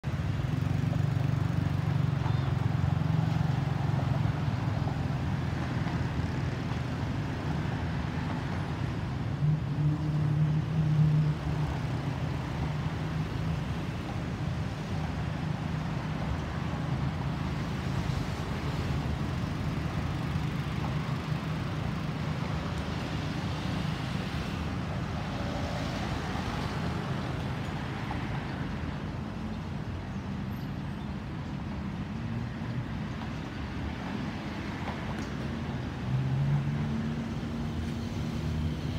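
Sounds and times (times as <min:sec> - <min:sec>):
low rumble of road traffic: 0:00.0 - 0:38.9.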